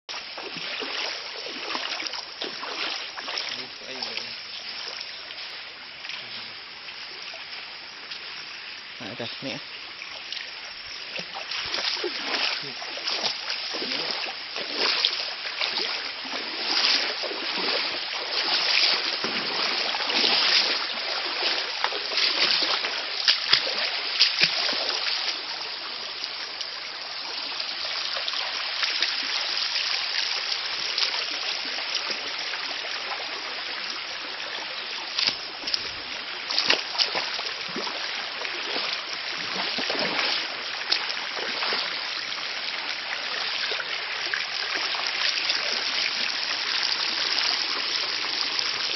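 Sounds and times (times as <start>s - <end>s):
stream running: 0.0s - 48.9s
water splashes: 0.1s - 48.9s.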